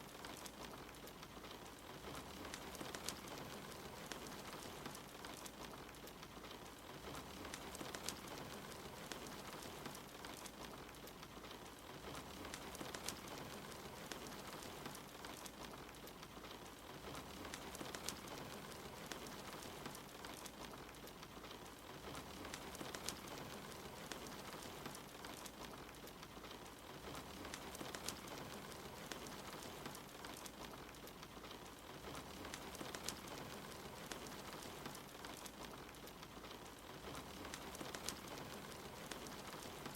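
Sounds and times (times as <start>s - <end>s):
fire pops and snaps: 0.0s - 39.9s
rain hiss: 0.0s - 39.9s
wood fire crackling: 0.0s - 39.9s.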